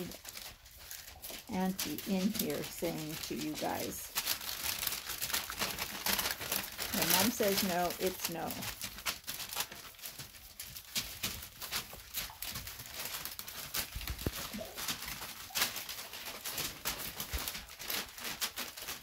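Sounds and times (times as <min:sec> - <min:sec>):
dog paws pattering on paper: 0:00.0 - 0:19.0
paper rustling: 0:00.0 - 0:19.0.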